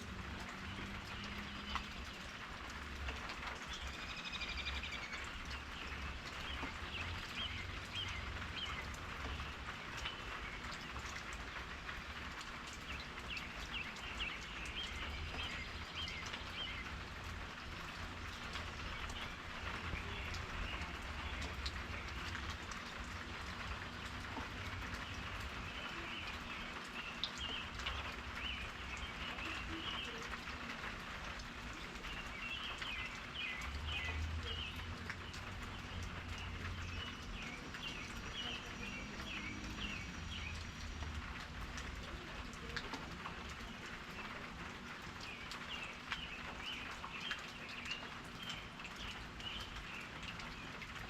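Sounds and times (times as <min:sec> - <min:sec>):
steady rain with drop ticks: 0:00.0 - 0:51.0.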